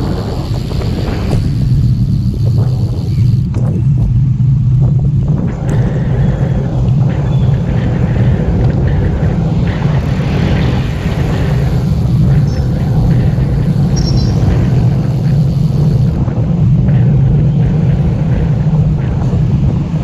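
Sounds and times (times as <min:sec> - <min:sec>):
road and tyre noise: 0:00.0 - 0:20.0
wind buffeting microphone: 0:00.0 - 0:20.0.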